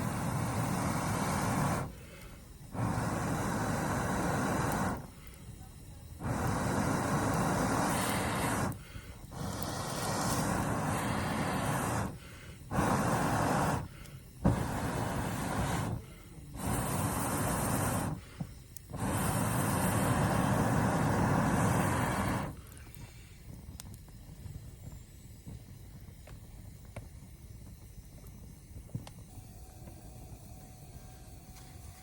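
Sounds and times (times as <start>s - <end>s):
air blown through pipe into fire: 0.0s - 32.0s.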